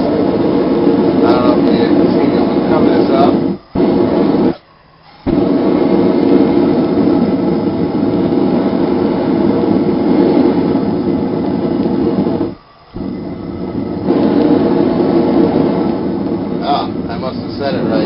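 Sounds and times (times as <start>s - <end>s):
gas forge burner roaring: 0.0s - 18.0s.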